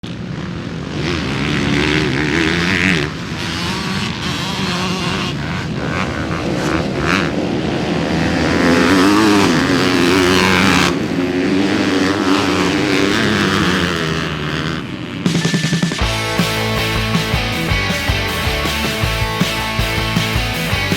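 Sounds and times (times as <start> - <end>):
motocross bike engines revving: 0.0 - 20.9.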